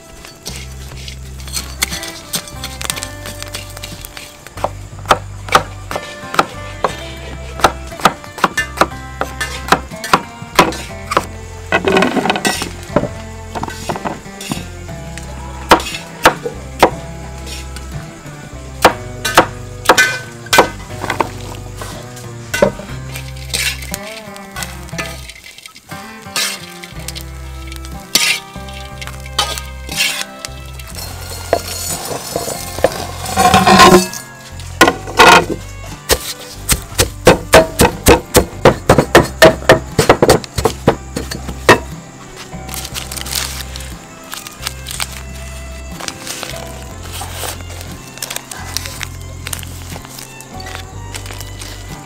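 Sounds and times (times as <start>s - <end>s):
background music with bass line: 0.0s - 52.0s.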